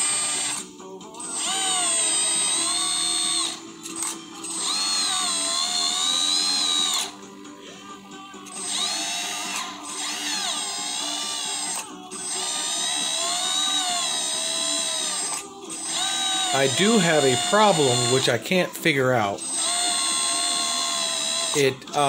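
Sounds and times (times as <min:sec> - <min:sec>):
small electric hydraulic pump whining: 0:00.0 - 0:07.3, 0:08.4 - 0:18.5, 0:19.3 - 0:22.0.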